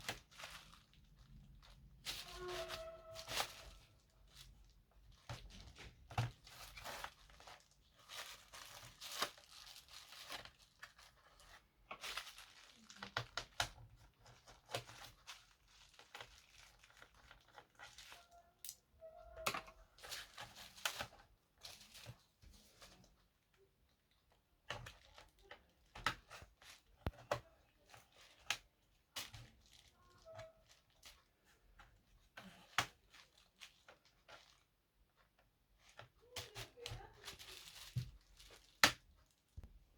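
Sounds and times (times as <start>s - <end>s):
plastic packaging crinkling and tearing: 0.0s - 18.8s, 24.8s - 34.7s, 35.8s - 39.6s.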